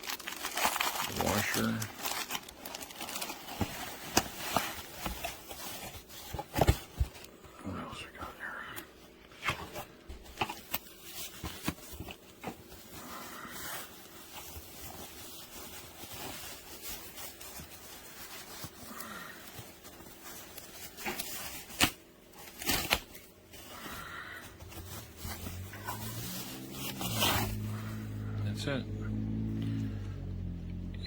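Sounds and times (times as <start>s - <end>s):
packaging rustling: 0.0s - 7.4s, 9.0s - 28.0s.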